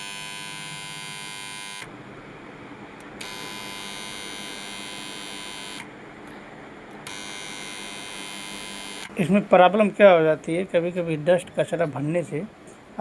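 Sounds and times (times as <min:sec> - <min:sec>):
contactor buzzing with rattling hum: 0:00.0 - 0:11.1.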